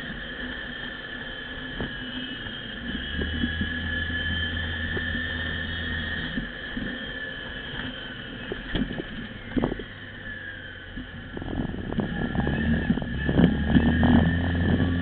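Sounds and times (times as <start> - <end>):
vehicle engine whine: 0.0 - 15.0.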